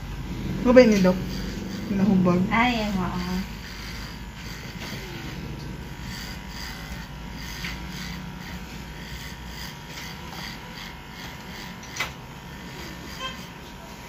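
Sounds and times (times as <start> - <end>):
electric hair clippers running: 0.0 - 14.0.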